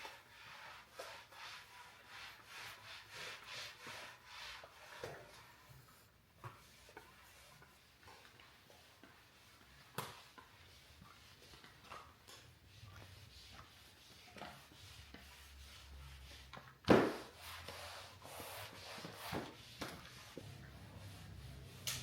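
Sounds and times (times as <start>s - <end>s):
mop swishing across floor: 0.0s - 22.0s.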